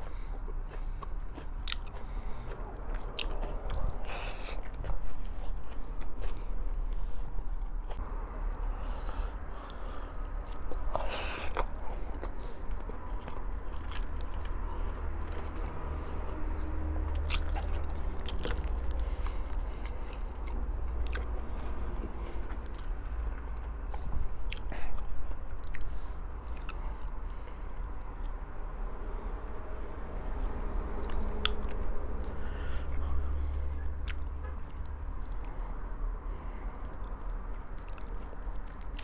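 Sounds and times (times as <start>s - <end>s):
person chewing food: 0.0s - 29.6s, 31.0s - 39.0s
low hum: 0.0s - 39.0s.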